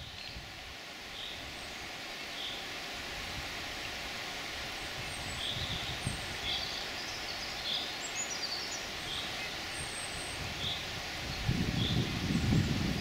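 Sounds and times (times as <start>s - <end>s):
small birds chirping: 0.0s - 3.0s, 3.8s - 13.0s
background hiss: 0.0s - 13.0s.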